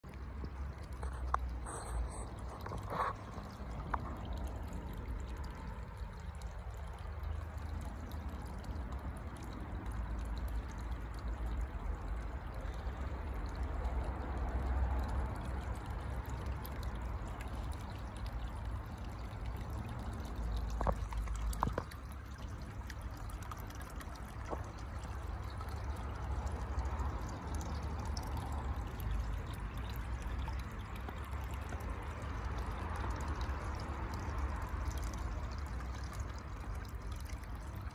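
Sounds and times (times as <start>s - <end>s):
water pouring into pond: 0.0s - 37.9s.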